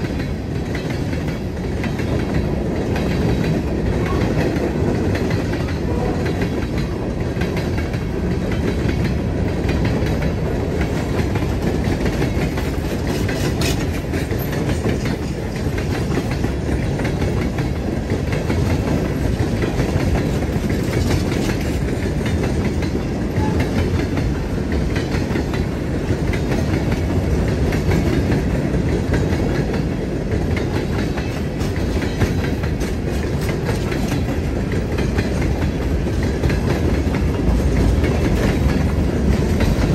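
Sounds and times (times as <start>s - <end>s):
steel wheels rumbling on rail: 0.0s - 39.9s
wheels clicking over rail joints: 0.0s - 39.9s.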